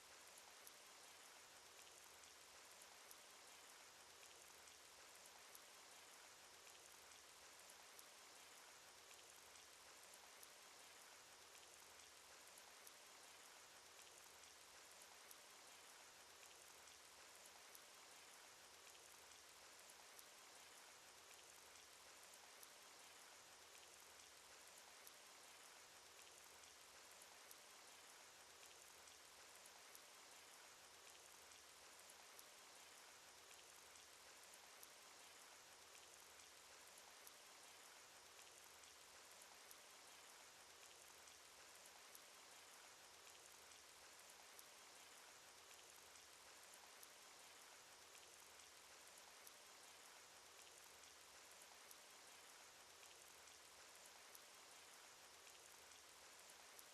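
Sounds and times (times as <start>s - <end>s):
steady rain patter: 0.0s - 56.9s.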